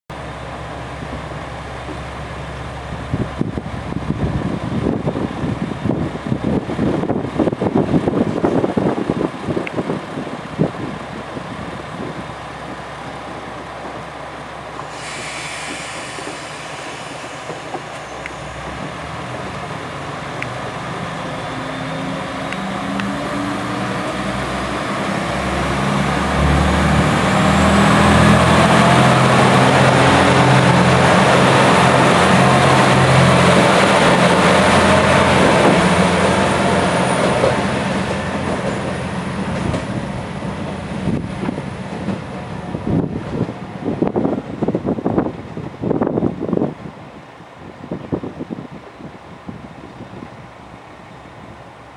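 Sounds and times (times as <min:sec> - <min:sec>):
diesel railcar engine accelerating: 0:00.1 - 0:51.9.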